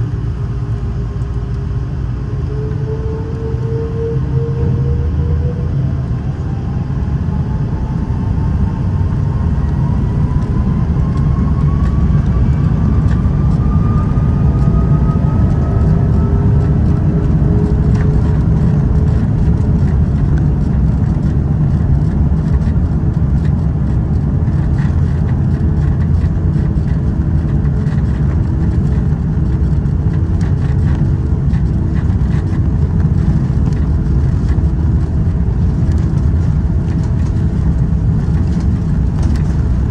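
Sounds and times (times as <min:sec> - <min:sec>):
deep steady rumble: 0:00.0 - 0:39.9
jet engine whine: 0:00.0 - 0:39.9.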